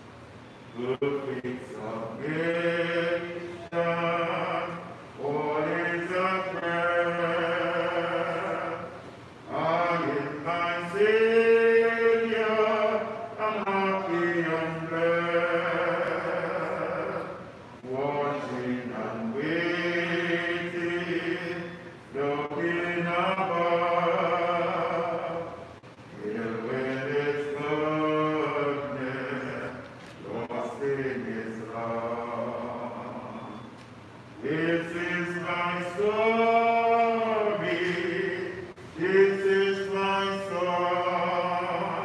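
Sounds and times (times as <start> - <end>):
people singing together: 0.8 - 33.8, 34.4 - 42.0.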